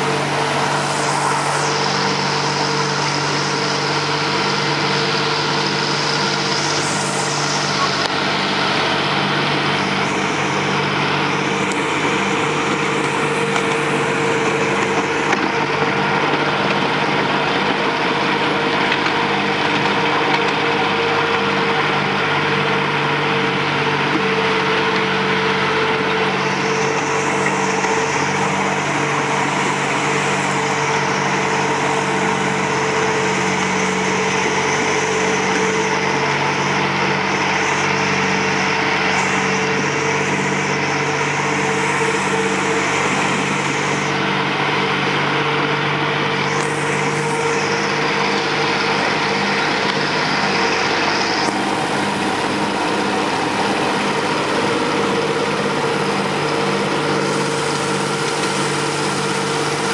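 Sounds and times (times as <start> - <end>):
miniature locomotive engine running: 0.0 - 59.9.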